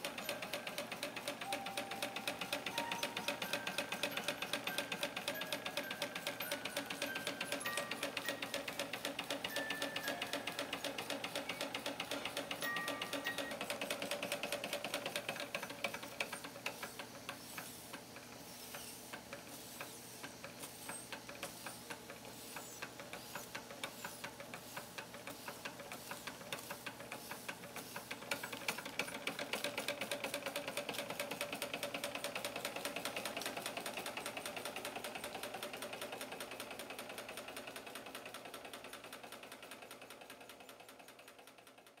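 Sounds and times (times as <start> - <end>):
toy steam engine ticking clatter: 0.0 - 42.0.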